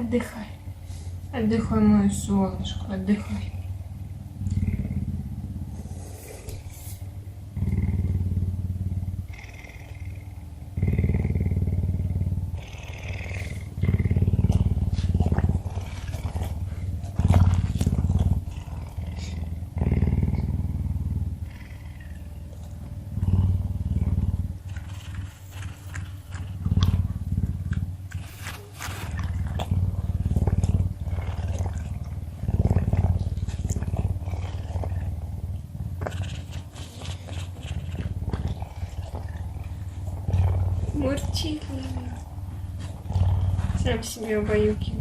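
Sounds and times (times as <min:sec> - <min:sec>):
puma purring: 0:00.0 - 0:45.0.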